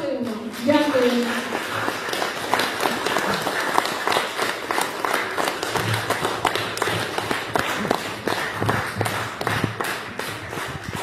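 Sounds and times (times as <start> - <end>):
audience applause: 0.6 - 11.0.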